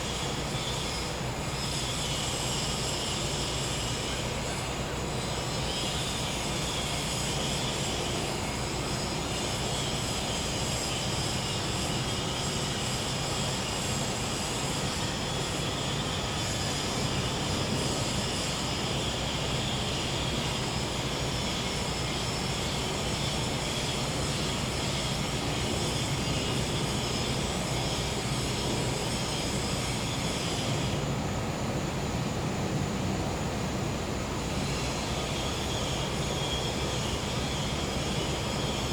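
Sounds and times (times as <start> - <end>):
crickets and cicadas chirring: 0.0 - 38.9.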